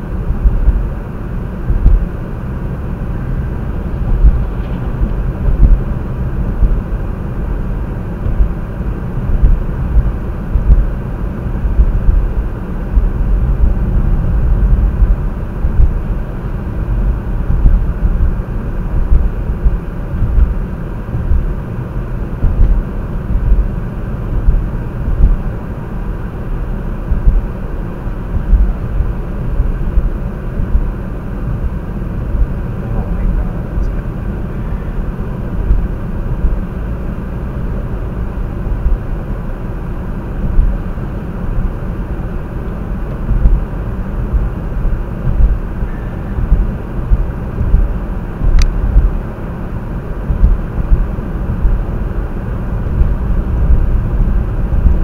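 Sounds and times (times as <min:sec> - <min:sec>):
car driving on snowy road: 0:00.0 - 0:55.0.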